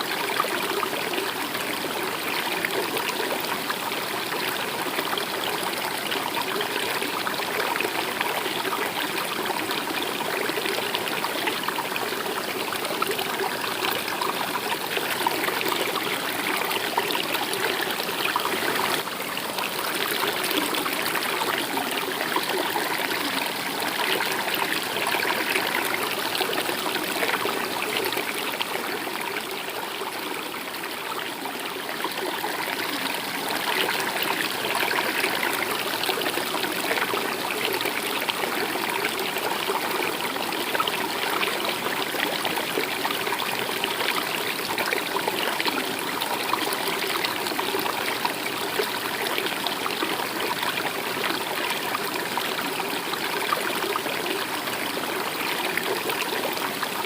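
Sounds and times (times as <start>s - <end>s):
stream of water flowing: 0.0s - 57.0s.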